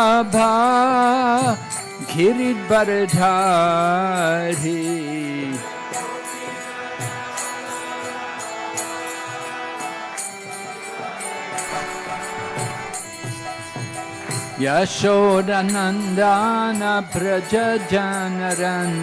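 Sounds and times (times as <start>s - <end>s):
held instrumental notes: 0.0s - 19.0s.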